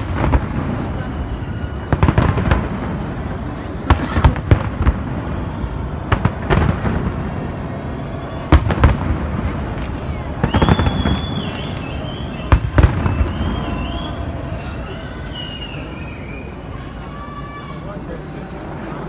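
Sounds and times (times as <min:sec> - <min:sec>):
fireworks bursting in bangs: 0:00.0 - 0:16.2.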